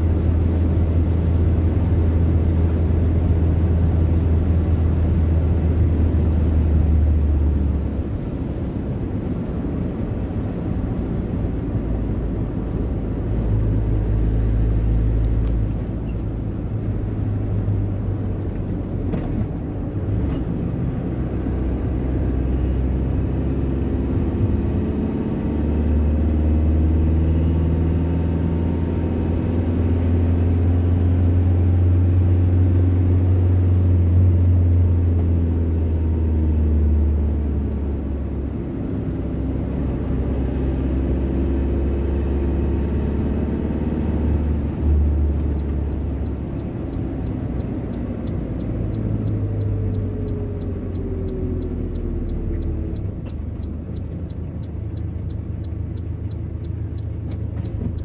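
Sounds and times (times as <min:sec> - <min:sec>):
car engine and road noise drone: 0:00.0 - 0:58.0.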